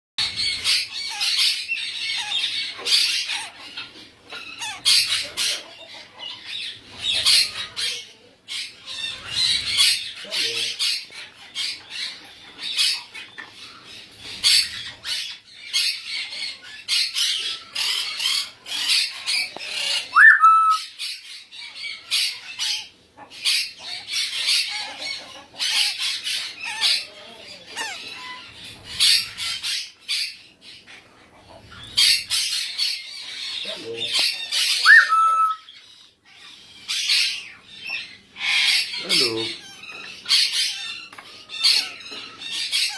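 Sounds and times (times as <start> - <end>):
parrots squawking: 0.2 - 42.9.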